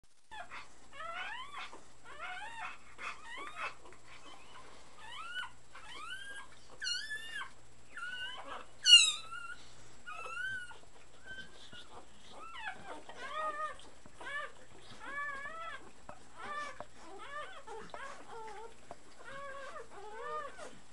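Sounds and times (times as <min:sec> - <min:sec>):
puppies squeaking and whining: 0:00.3 - 0:20.8.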